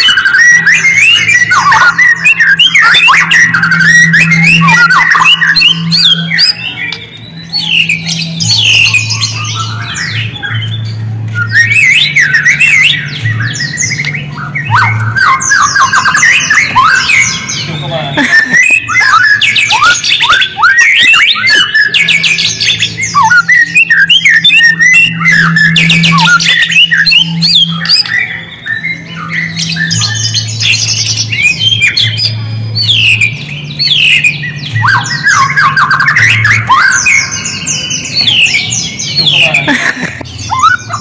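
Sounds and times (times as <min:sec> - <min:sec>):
bird singing whistles and chatters: 0:00.0 - 0:41.0
low steady drone: 0:00.2 - 0:19.8, 0:22.1 - 0:41.0.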